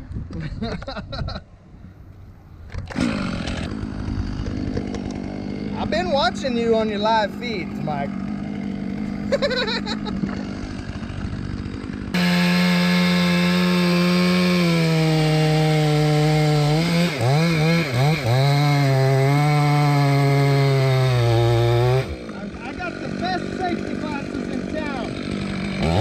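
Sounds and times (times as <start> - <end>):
chainsaw running: 2.7 - 26.0.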